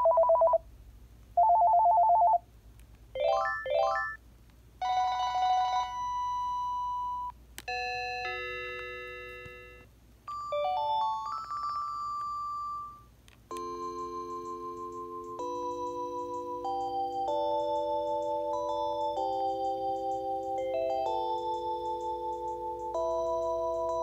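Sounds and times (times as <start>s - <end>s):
phone ringer tones: 0.0s - 0.6s, 1.4s - 2.4s, 3.2s - 4.2s, 4.8s - 24.0s.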